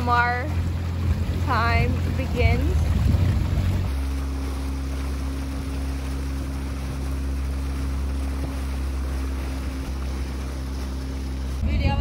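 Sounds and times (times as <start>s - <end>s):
boat engine humming: 0.0s - 12.0s
water splashing along boat hull: 0.0s - 12.0s.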